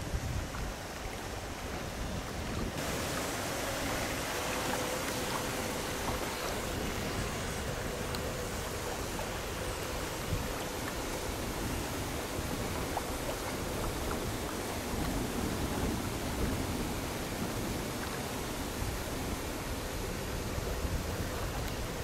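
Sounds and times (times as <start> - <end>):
small waves: 0.0 - 22.0
wind: 0.0 - 22.0.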